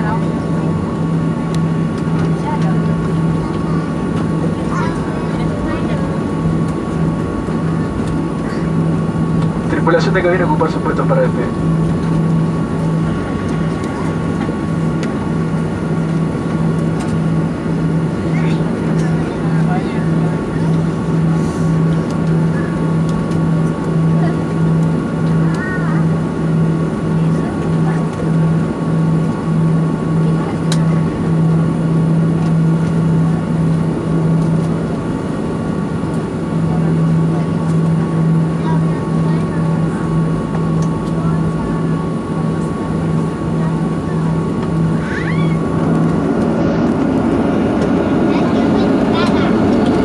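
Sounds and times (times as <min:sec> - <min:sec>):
jet engines humming at low power: 0:00.0 - 0:50.0
pulsing low drone: 0:00.0 - 0:50.0.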